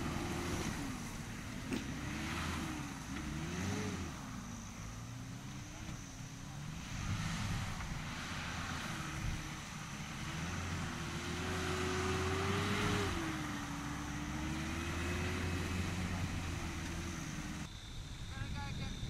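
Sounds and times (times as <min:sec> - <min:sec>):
diesel engine running under load: 0:00.0 - 0:17.7.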